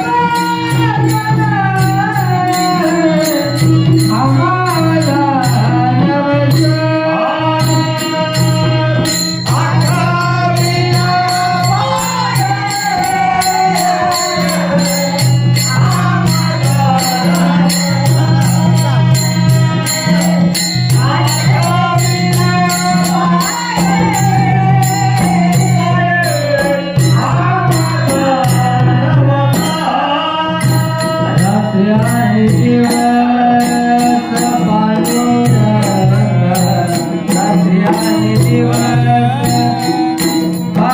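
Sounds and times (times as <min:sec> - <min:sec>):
harmonium: 0:00.0 - 0:40.9
jingling percussion beat: 0:00.0 - 0:40.9
person singing: 0:00.0 - 0:40.9.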